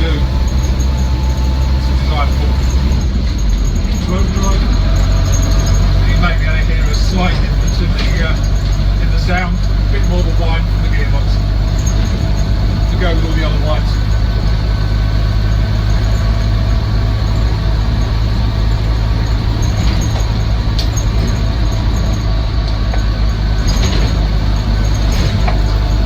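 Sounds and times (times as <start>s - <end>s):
car engine running on the move: 0.0s - 26.0s
gearbox whine: 0.0s - 26.0s.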